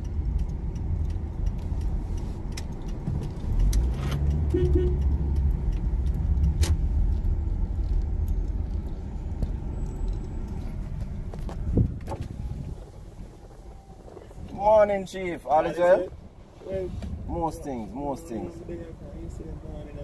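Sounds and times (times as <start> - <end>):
road and engine rumble in van: 0.0 - 20.0.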